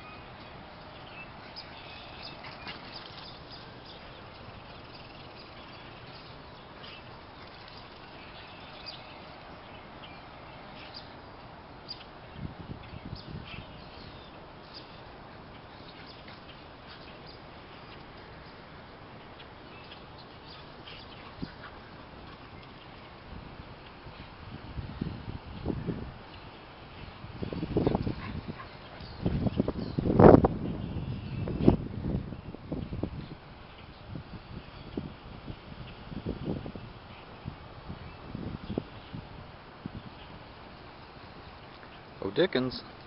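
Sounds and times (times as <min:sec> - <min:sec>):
steady background hiss: 0:00.0 - 0:43.0.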